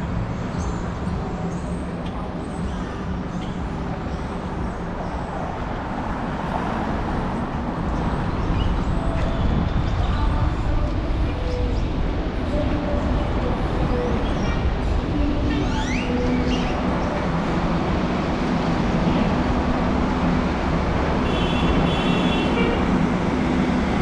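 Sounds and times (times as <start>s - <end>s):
traffic: 0.0s - 24.0s.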